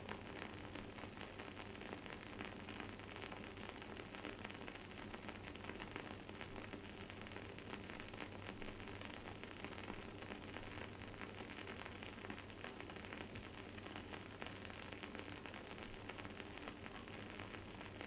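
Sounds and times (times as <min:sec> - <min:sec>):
wood-wick candle crackling: 0:00.0 - 0:18.0.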